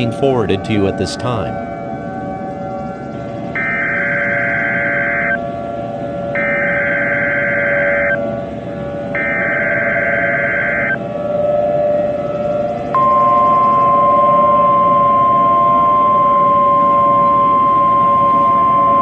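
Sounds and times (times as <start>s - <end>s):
buzzing digital data tones: 0.0s - 5.4s, 6.4s - 8.4s, 9.1s - 11.0s, 12.4s - 19.0s
steady background drone: 0.0s - 19.0s.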